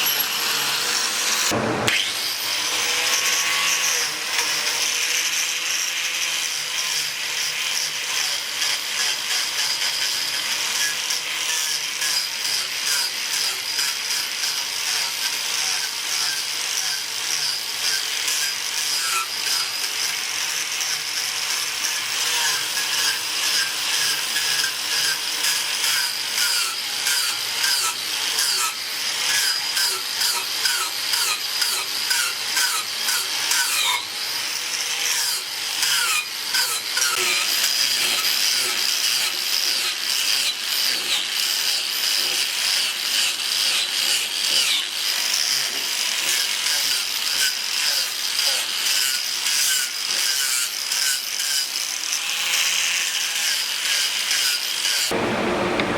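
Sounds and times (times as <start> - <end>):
angle grinder cutting wood: 0.0 - 55.9.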